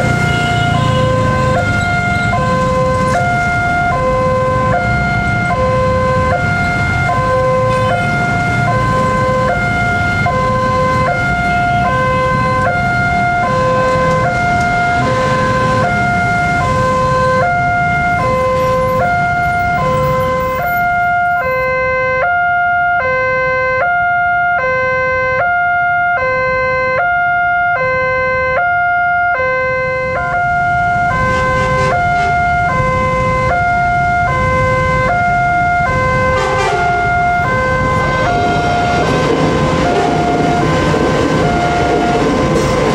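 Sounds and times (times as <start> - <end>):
level crossing two-tone alarm: 0.0 - 42.9
road traffic: 0.0 - 42.9.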